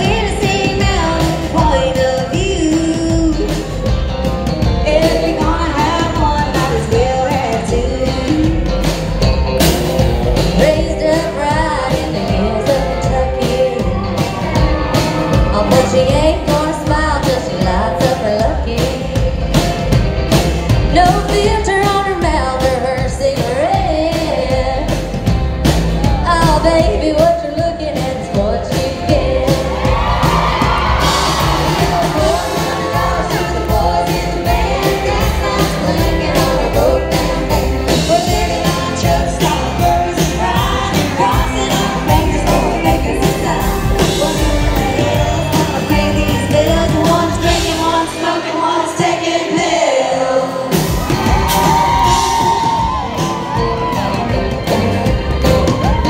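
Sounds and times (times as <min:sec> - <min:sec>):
women singing: 0:00.0 - 0:03.6, 0:04.8 - 0:08.7, 0:10.6 - 0:14.7, 0:15.3 - 0:19.4, 0:20.9 - 0:25.1, 0:26.2 - 0:53.8
electric guitar: 0:00.0 - 0:49.1, 0:50.3 - 0:56.0
bass guitar: 0:00.0 - 0:49.8, 0:50.6 - 0:56.0
drums: 0:00.0 - 0:56.0.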